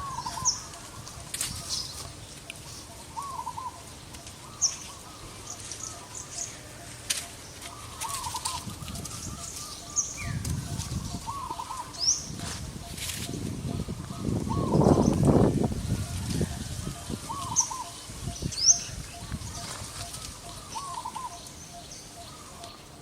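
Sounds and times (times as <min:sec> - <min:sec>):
bird trilled call: 0:00.0 - 0:02.0, 0:02.8 - 0:15.2, 0:16.4 - 0:22.9.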